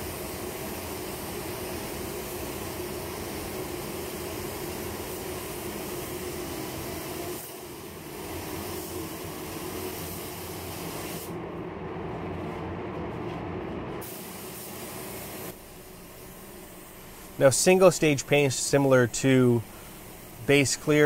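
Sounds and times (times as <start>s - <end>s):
spray gun hissing: 0.0s - 11.4s, 14.0s - 21.0s
air flow hum: 0.0s - 21.0s.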